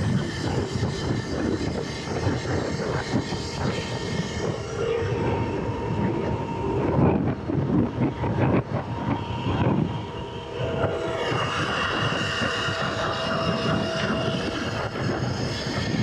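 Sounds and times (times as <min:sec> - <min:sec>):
faint steady whine: 0:00.0 - 0:16.0
wind buffeting microphone: 0:00.0 - 0:16.0.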